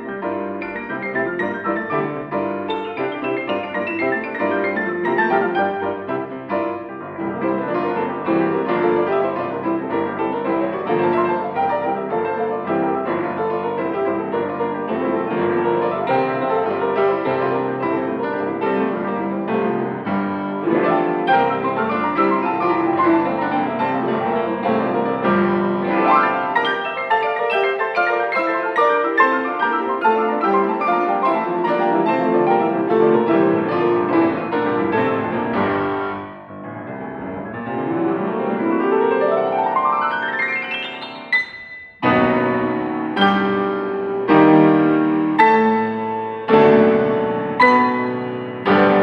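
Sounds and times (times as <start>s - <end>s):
two pianos playing: 0.0s - 49.0s.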